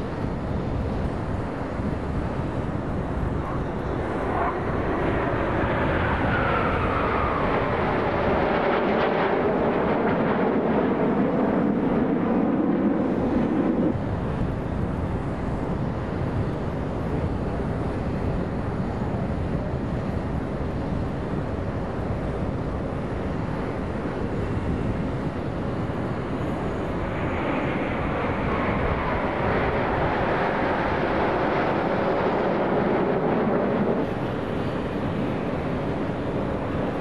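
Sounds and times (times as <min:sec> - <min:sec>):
jets flying overhead: 0:00.0 - 0:37.0.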